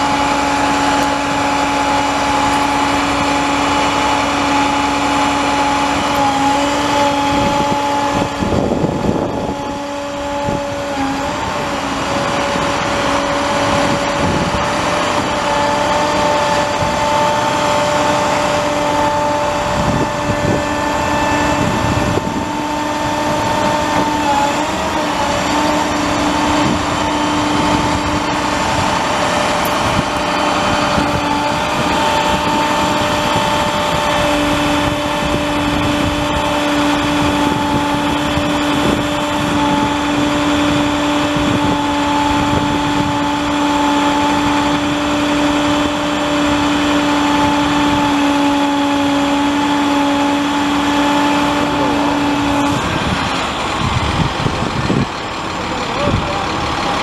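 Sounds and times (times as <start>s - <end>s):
diesel truck engine whining: 0.0s - 57.0s.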